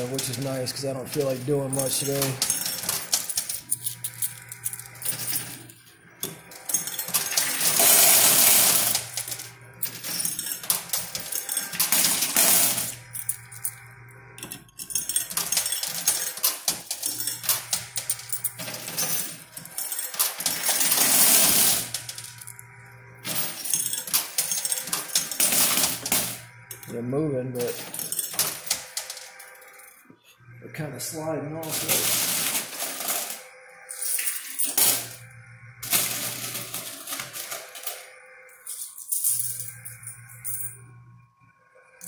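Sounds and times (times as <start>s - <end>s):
dense coin clatter: 0.0s - 13.8s, 14.4s - 22.5s, 23.2s - 26.9s, 27.6s - 30.0s, 31.6s - 35.2s, 35.8s - 40.8s
coins clinking and sliding: 0.0s - 30.1s, 31.6s - 41.1s
steady motor hum: 0.0s - 42.0s.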